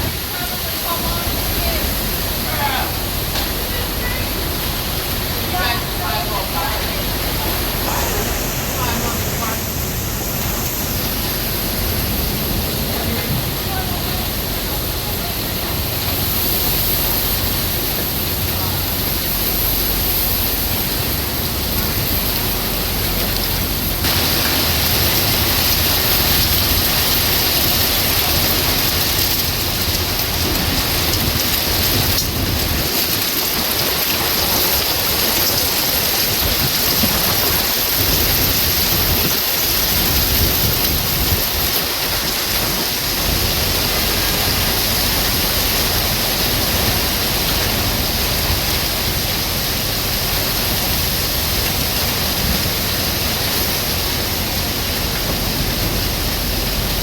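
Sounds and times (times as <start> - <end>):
heavy rain pouring: 0.0 - 57.0
low wind rumble: 0.0 - 57.0.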